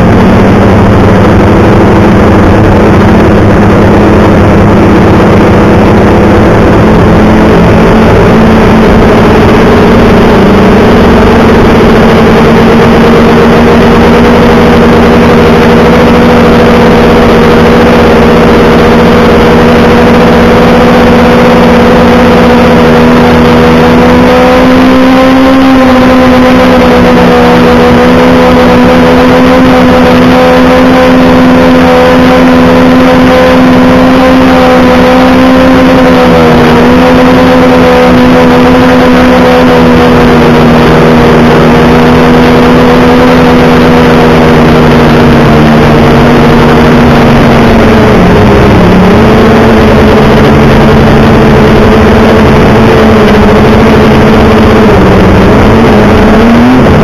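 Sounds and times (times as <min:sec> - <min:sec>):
loud distorted engine running: 0:00.0 - 0:57.0.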